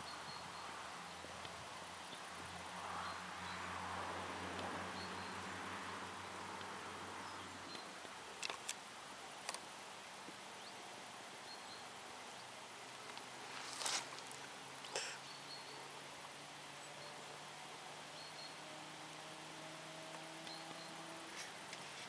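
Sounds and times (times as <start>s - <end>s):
low hiss: 0.0s - 22.0s.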